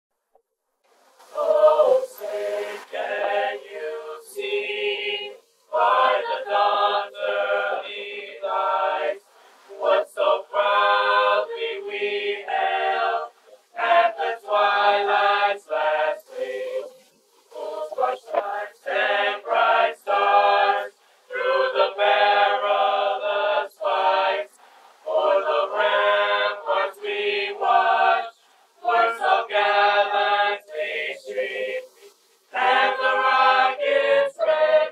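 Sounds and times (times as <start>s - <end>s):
choir singing: 1.2s - 34.9s.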